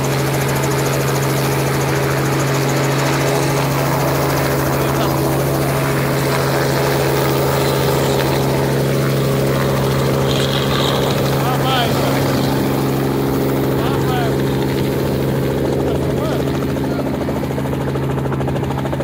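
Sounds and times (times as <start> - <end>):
helicopter engine humming: 0.0 - 19.0.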